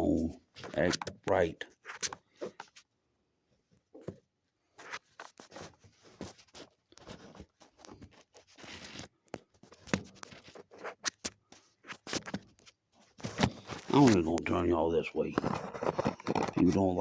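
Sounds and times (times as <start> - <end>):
phone handling scrapes and rubs: 0.1 - 2.9, 4.7 - 14.5, 15.2 - 17.0.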